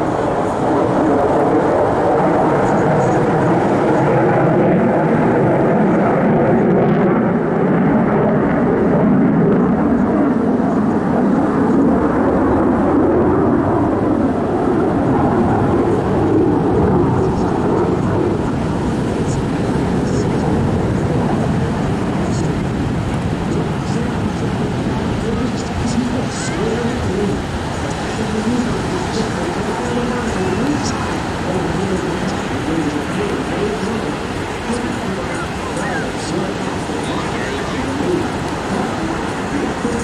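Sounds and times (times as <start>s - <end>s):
aircraft engine drone: 0.0s - 40.0s.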